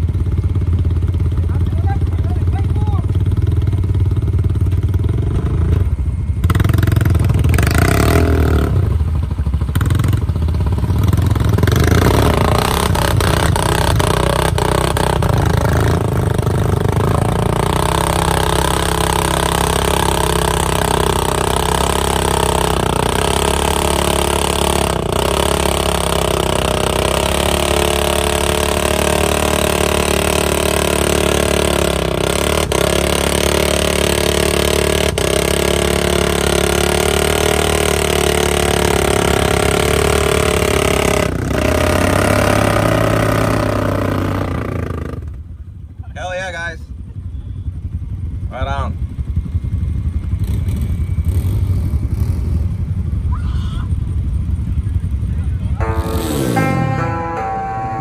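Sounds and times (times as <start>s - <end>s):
side-by-side engine running: 0.0s - 57.8s.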